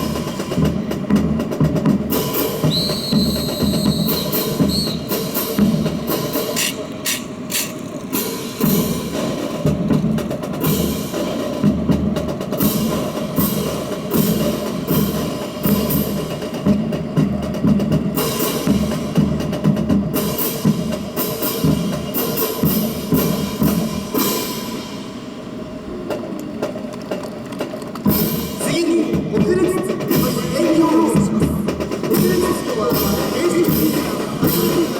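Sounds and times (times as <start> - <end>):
drum beat: 0.0 - 24.2, 27.4 - 34.9.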